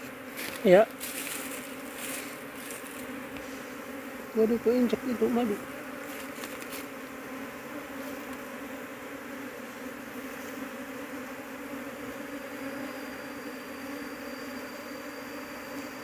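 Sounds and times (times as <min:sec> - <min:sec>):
swarm of bees buzzing: 0:00.0 - 0:16.0.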